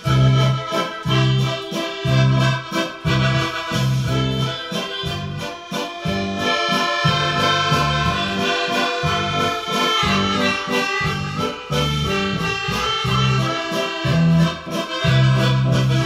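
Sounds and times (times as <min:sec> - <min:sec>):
instrumental music with bass beat: 0:00.0 - 0:16.0.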